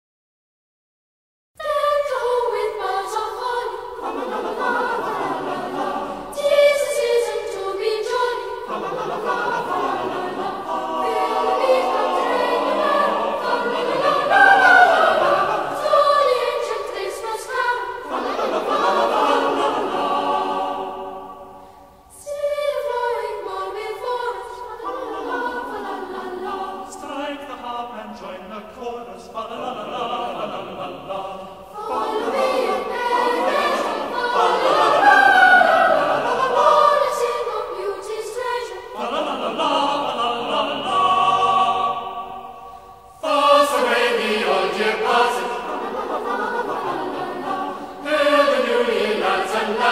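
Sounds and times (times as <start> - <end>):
choir singing: 1.6 - 49.9.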